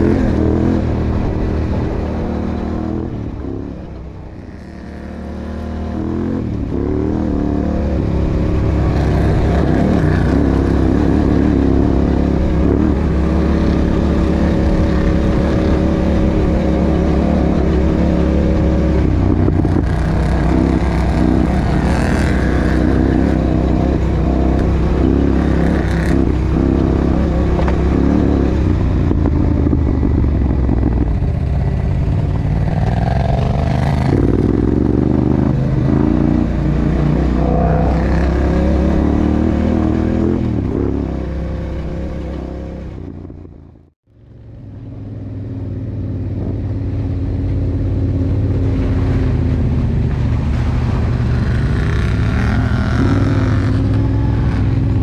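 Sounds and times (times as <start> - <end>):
quad bike engine revving: 0.0 - 43.5, 45.4 - 55.0.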